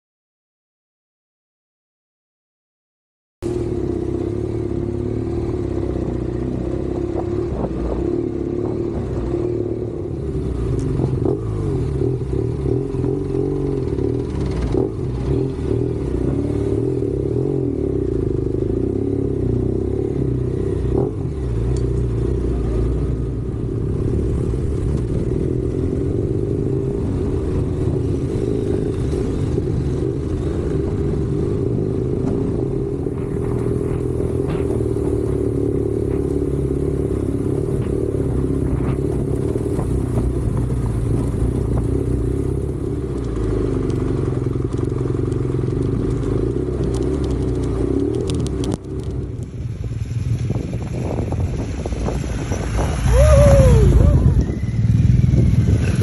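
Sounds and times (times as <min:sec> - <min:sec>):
motorcycle engine running: 0:03.4 - 0:56.0.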